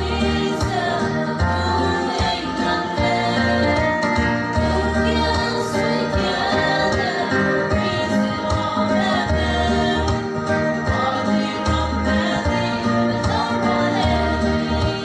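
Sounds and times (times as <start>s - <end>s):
group singing together: 0.0s - 15.0s.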